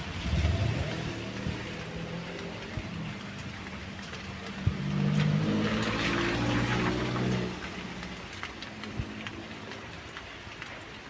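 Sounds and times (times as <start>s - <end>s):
rain falling: 0.0s - 11.0s
drops ticking on a surface: 0.9s - 11.0s.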